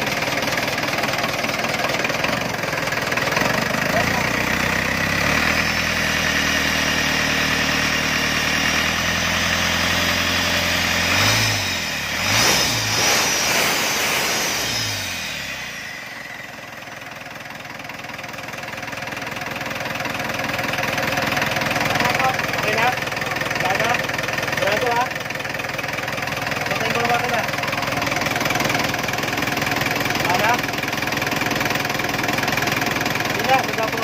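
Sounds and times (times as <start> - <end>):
diesel engine idling and revving: 0.0 - 34.0.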